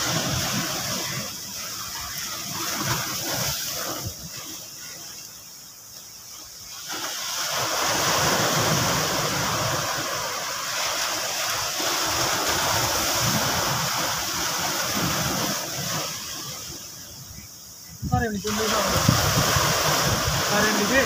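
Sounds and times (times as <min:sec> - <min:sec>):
surf washing against rocks: 0:00.0 - 0:21.0.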